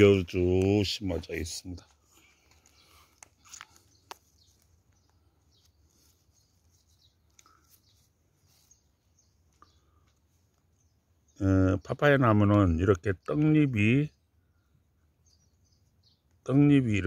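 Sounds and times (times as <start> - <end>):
faint bird chirps: 1.7 - 17.0.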